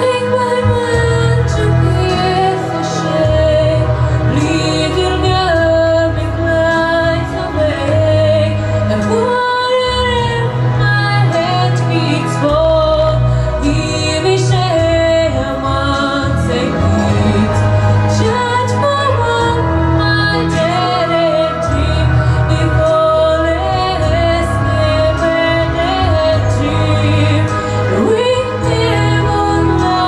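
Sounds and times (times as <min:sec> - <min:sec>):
instrumental accompaniment: 0:00.0 - 0:30.0.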